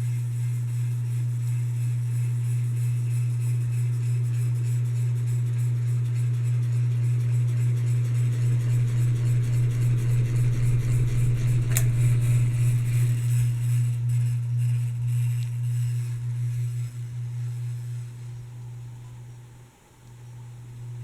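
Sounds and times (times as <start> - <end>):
ceiling fan motor humming: 0.0 - 21.0.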